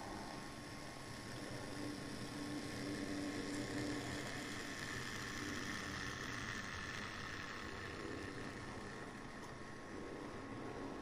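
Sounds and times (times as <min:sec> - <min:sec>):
model train motors whirring: 0:00.0 - 0:11.0
wheels rolling on track: 0:00.0 - 0:11.0.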